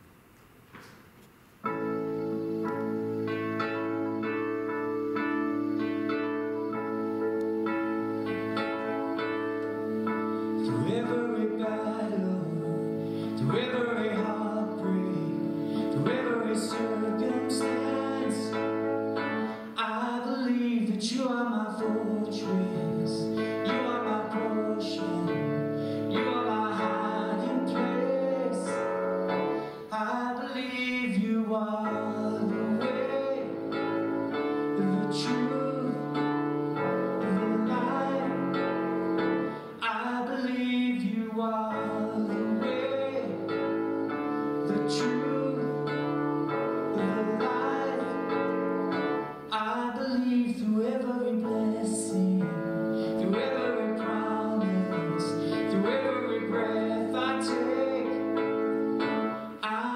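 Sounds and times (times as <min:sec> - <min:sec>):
piano playing sustained chords: 0:01.6 - 0:59.9.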